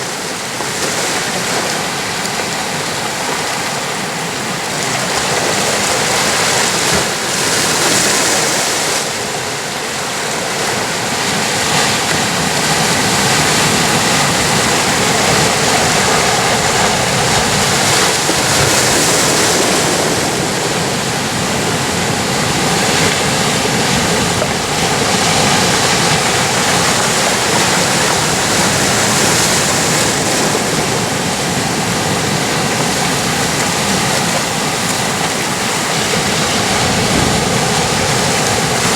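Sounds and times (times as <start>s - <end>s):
ocean waves breaking on rocks: 0.0s - 38.9s.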